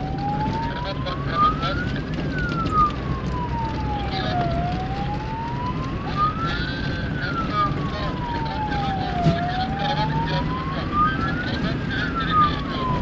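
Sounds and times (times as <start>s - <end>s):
vehicle on gravel track: 0.0s - 13.0s
wailing siren: 0.0s - 13.0s.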